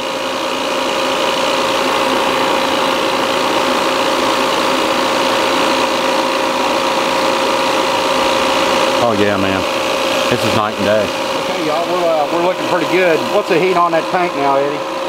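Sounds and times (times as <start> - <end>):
recovery machine humming and whining: 0.0 - 15.0.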